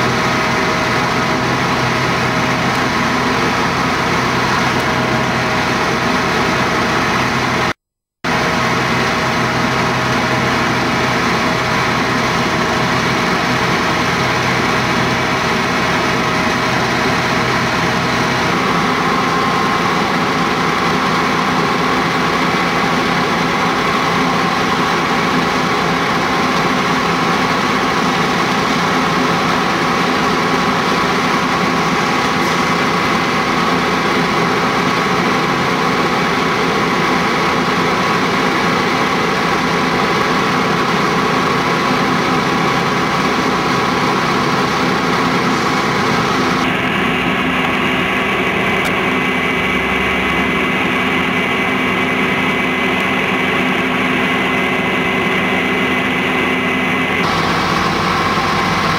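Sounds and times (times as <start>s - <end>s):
fire engine pump humming: 0.0s - 58.9s.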